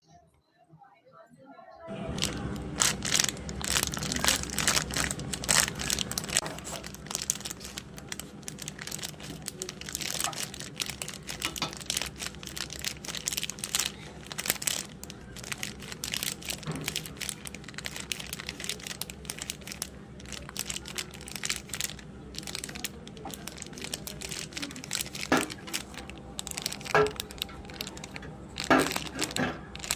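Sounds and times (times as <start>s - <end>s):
chalk crunching and crackling: 2.2s - 29.9s.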